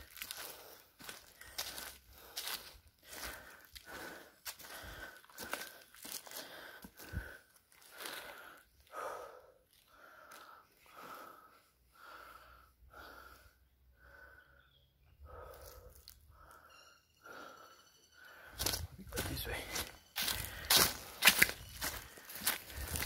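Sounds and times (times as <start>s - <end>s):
person panting: 0.0s - 23.0s.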